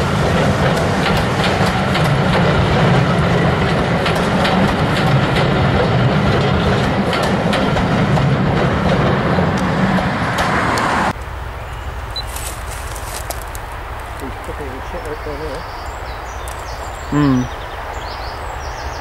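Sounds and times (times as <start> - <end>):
train wheels clacking on rail joints: 0.0 - 11.4, 12.2 - 17.1.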